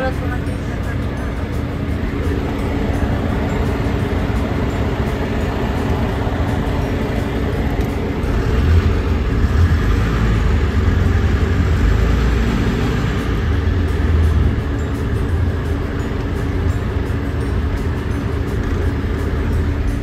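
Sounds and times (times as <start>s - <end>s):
bus engine rumble: 0.0s - 20.0s
road noise inside bus: 0.0s - 20.0s.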